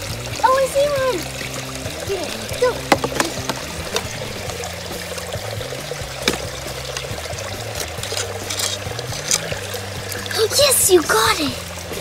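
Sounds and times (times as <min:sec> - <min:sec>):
creek water running over rocks: 0:00.0 - 0:12.0
small water splashes: 0:00.0 - 0:12.0.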